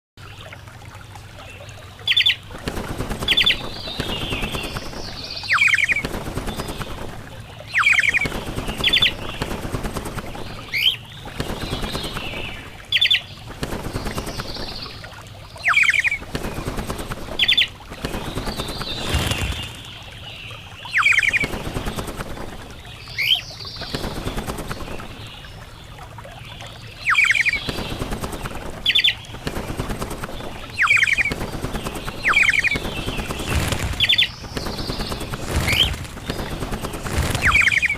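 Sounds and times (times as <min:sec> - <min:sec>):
fluttering rustling noise: 0:02.4 - 0:25.8, 0:27.0 - 0:37.9.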